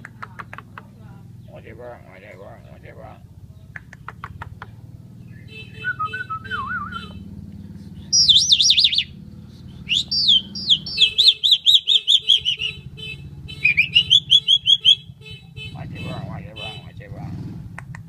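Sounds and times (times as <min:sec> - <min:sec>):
starling singing: 0:00.0 - 0:17.1.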